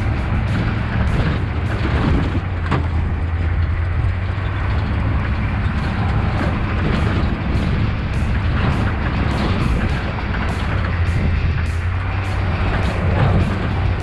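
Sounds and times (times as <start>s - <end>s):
road and wind noise: 0.0s - 14.0s
vehicle engine drone: 0.0s - 14.0s.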